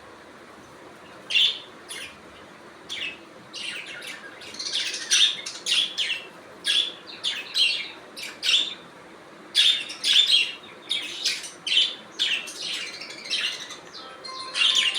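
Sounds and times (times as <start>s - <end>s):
budgerigars chirping: 1.3s - 2.2s, 2.9s - 8.8s, 9.6s - 14.9s.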